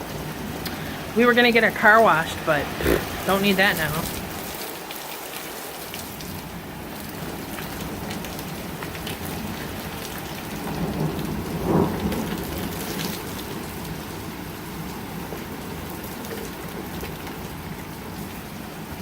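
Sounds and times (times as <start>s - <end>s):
heavy wind-driven rain: 0.0s - 19.0s.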